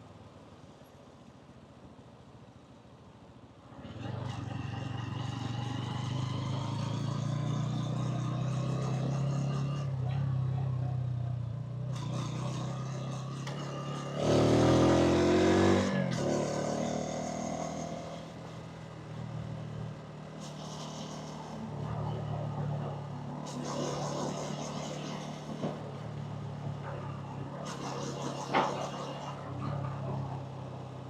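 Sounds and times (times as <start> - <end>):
street traffic: 0.0 - 31.0
engine revving: 3.7 - 11.0, 11.7 - 30.9.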